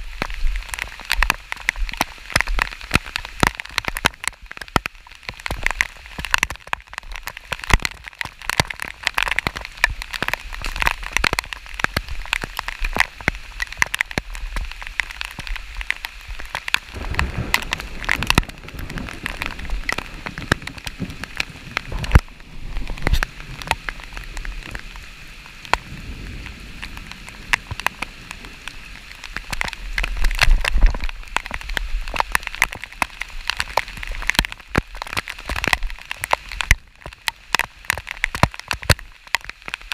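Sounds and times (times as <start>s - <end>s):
rain falling: 0.0s - 39.9s
raindrops ticking near microphone: 0.0s - 39.9s
wind rumble on microphone: 0.0s - 39.9s.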